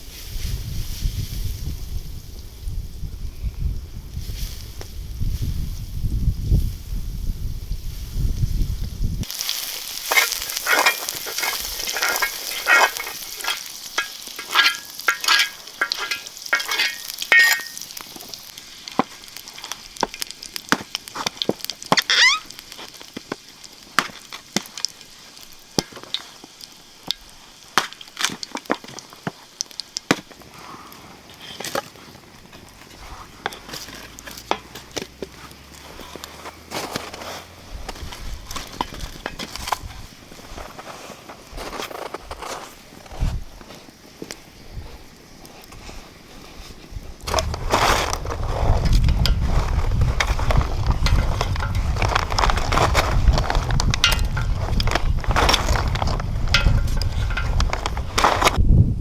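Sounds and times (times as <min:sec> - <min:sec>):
meat sizzling and popping in pan: 0:07.9 - 0:30.6, 0:31.2 - 0:40.8, 0:41.4 - 0:58.6.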